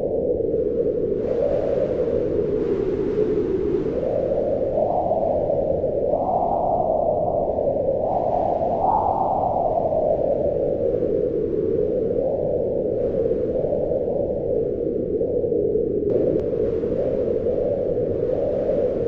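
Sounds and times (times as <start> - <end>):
strong wind howling: 0.0 - 19.0.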